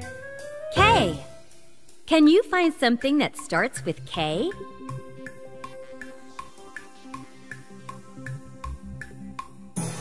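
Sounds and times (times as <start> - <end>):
light tune with ticking beat: 0.0 - 9.8.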